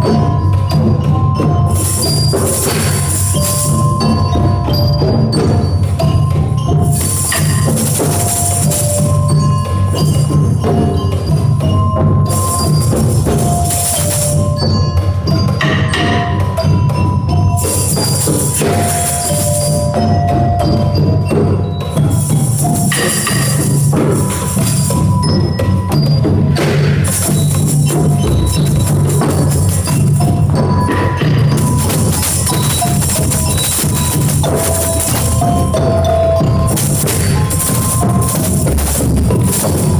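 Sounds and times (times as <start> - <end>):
hand drums playing: 0.0 - 39.9
ringing tuned percussion: 0.0 - 39.9.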